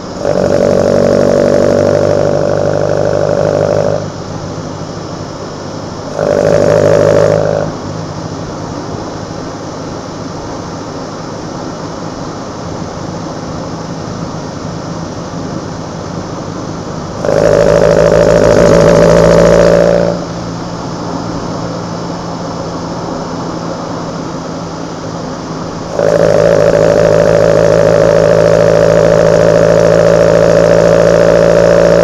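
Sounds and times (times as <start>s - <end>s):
car engine intake noise: 0.0s - 32.0s.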